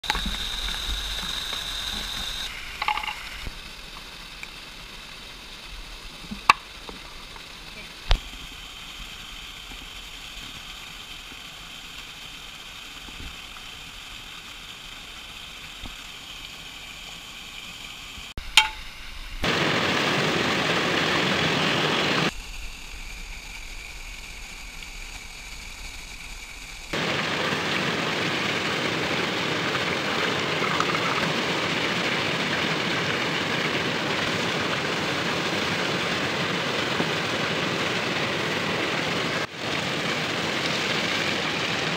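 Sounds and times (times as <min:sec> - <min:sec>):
small waterfall rushing: 0:00.0 - 0:41.9.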